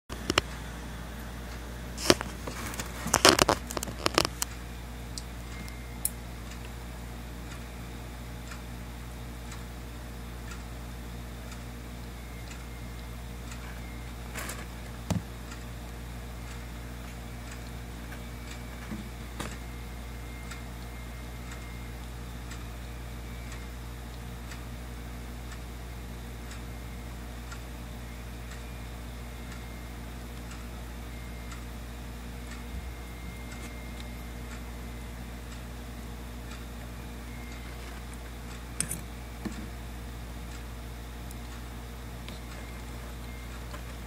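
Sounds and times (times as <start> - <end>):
low hum: 0.1 - 44.0.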